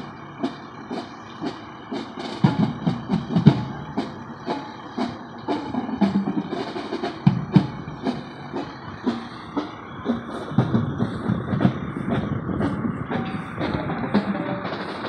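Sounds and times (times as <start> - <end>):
marching band drums: 0.0 - 15.0.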